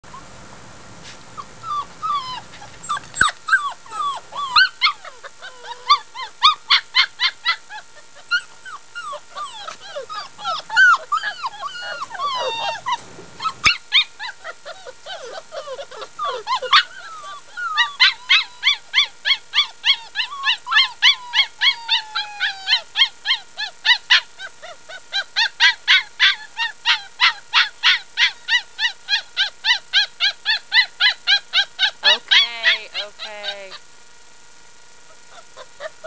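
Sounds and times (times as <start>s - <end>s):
puppy whining: 0.0s - 0.4s, 1.0s - 34.0s, 34.8s - 36.0s
puppies yipping: 1.4s - 33.9s, 35.0s - 36.0s.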